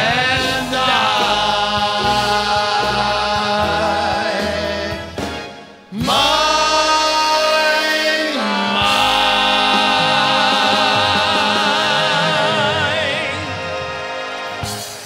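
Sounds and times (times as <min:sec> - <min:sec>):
men singing in harmony: 0:00.0 - 0:15.0
swing band playing: 0:00.0 - 0:15.0.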